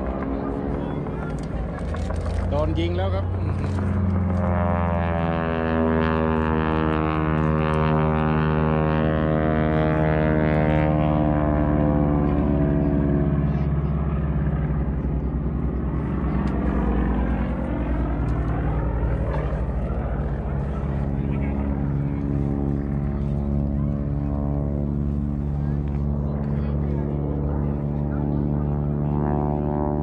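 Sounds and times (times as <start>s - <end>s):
propeller airplane flying past: 0.0s - 30.0s.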